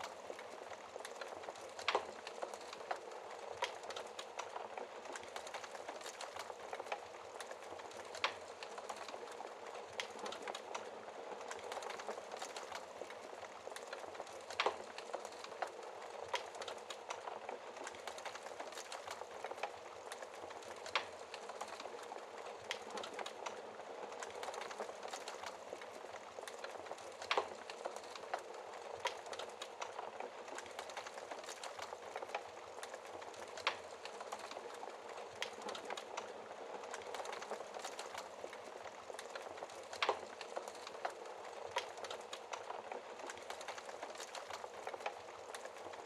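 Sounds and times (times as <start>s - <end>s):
fire crackling and popping: 0.0s - 46.0s
loud fire snaps: 0.0s - 46.0s
wood fire hissing: 0.0s - 46.0s.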